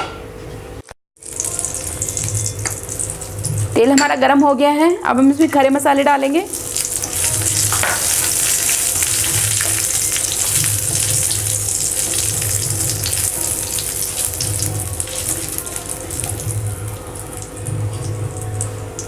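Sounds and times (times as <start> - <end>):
spices sizzling in hot oil: 1.2 - 4.0, 5.2 - 19.0.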